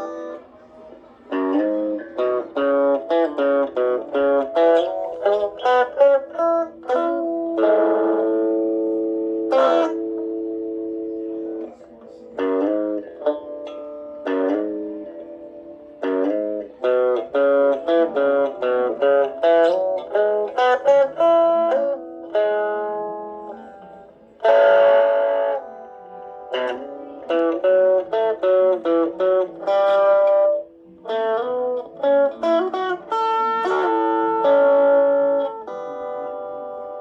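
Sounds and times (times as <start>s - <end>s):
electric guitar picked notes: 0.0s - 37.0s
electric guitar strummed chords: 0.0s - 37.0s.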